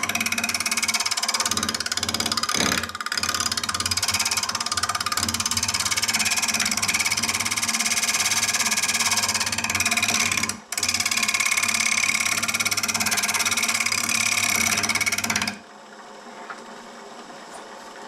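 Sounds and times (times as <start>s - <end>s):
lathe running quietly: 0.0s - 18.0s.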